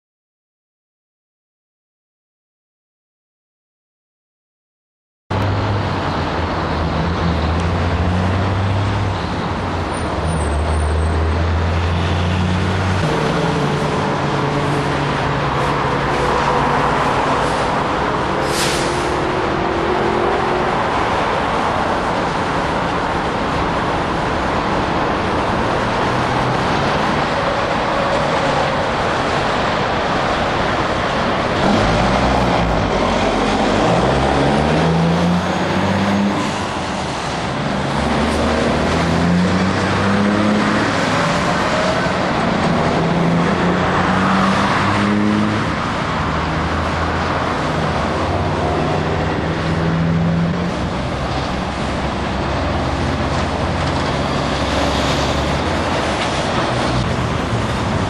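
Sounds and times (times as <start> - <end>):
heavy road traffic: 5.3 - 58.0
truck engines shifting gears: 5.3 - 58.0.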